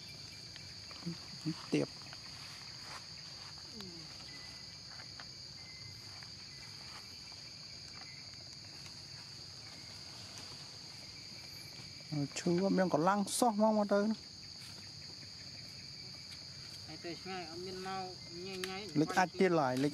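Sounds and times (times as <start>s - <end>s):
insect chorus drone: 0.0s - 19.9s.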